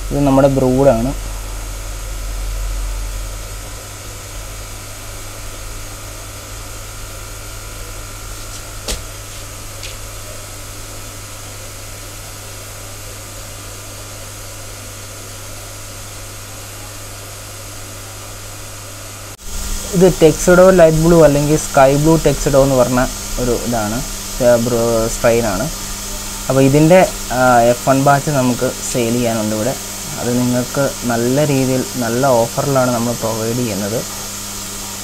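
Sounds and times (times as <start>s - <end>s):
aeration equipment hum and hiss: 0.0s - 35.0s.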